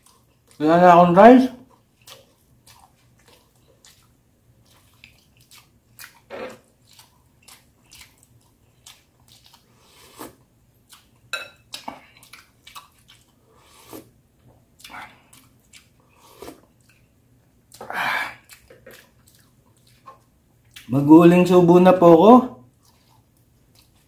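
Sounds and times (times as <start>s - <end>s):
person chewing and sipping: 0.0s - 0.6s, 1.6s - 20.9s, 22.7s - 24.0s.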